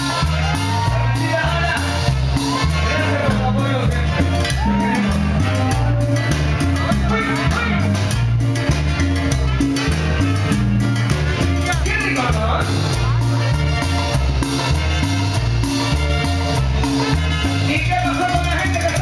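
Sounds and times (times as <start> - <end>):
bass line: 0.0 - 19.0
drums and percussion: 0.0 - 19.0
live band playing cumbia: 0.0 - 19.0.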